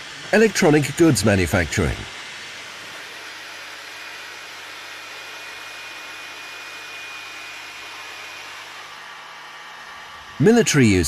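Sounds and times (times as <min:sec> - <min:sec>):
hot air tool fan hissing: 0:00.0 - 0:11.0.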